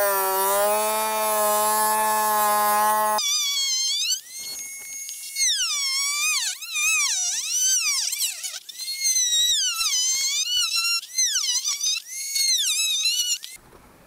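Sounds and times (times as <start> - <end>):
rotary tool cutting plastic: 0.0 - 13.6.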